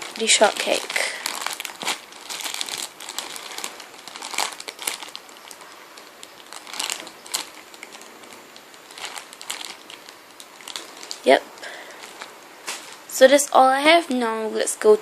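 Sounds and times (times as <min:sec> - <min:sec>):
plastic crinkling and rustling: 0:00.0 - 0:13.3.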